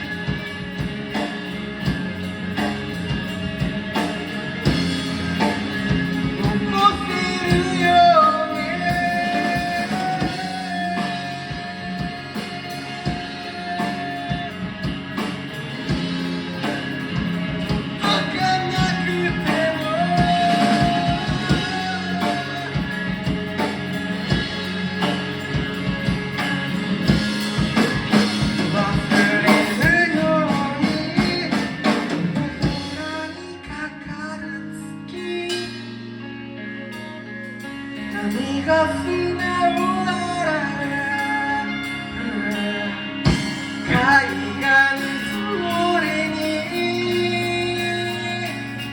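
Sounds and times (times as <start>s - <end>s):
guitar and drums: 0.0s - 48.9s
person singing: 5.2s - 25.4s, 26.2s - 36.2s, 38.0s - 48.9s.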